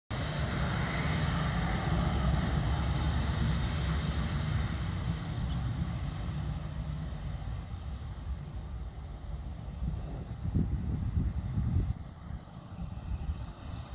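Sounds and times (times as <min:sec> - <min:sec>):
jet engines rumbling: 0:00.1 - 0:13.9.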